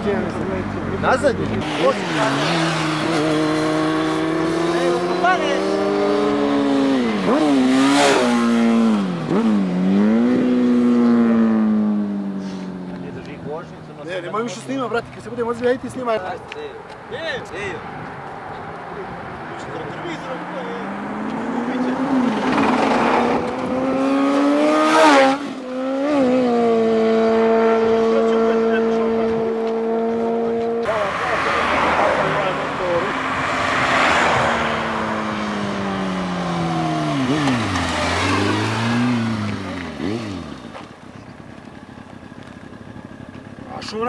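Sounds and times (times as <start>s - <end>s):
motorcycle engine revving high: 0.0s - 13.0s, 19.9s - 44.0s.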